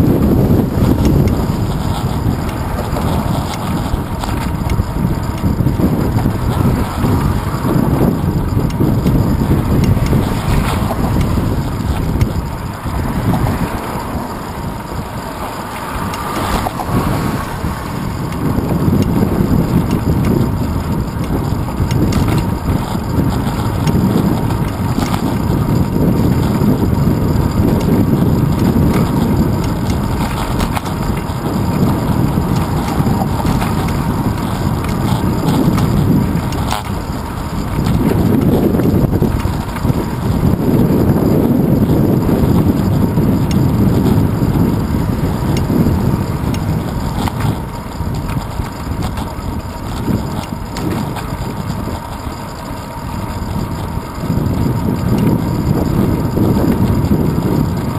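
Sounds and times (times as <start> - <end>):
road rumble: 0.0 - 57.9
wind buffeting: 0.0 - 57.9.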